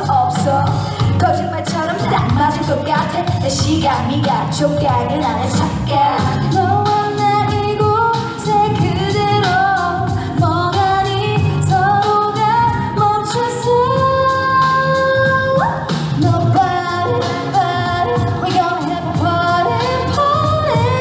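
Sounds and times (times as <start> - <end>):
backing track with steady beat: 0.0 - 21.0
woman singing pop song: 0.0 - 21.0.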